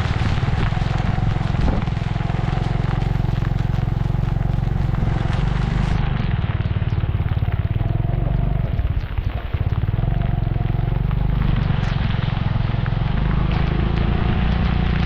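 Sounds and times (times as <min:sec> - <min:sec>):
small engine running: 0:00.0 - 0:15.0
wind and road noise hiss: 0:00.0 - 0:15.0.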